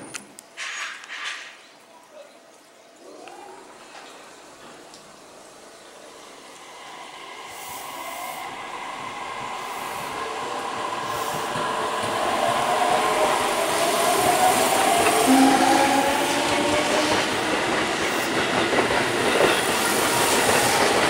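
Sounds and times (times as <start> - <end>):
train wheels on rails: 3.9 - 21.0.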